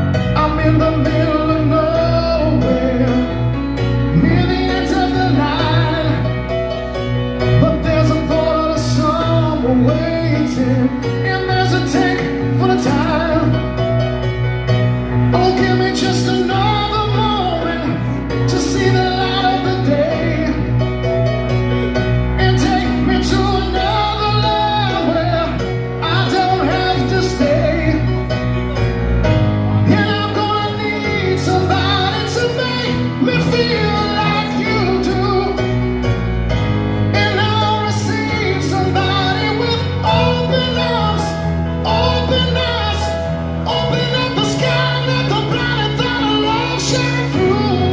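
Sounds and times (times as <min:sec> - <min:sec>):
bass line: 0:00.0 - 0:47.9
live rock band playing ballad: 0:00.0 - 0:47.9
man singing: 0:00.0 - 0:47.9.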